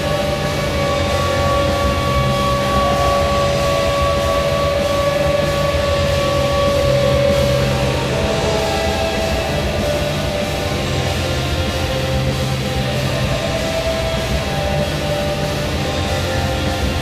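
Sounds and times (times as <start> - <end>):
heavy rock song: 0.0 - 17.0
loud goal horn: 0.0 - 17.0.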